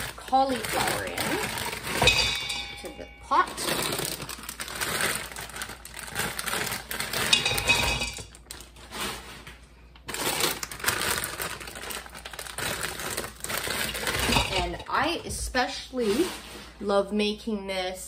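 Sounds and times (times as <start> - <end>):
frozen vegetables clattering into steel pot: 0.0 - 9.5, 10.1 - 16.6.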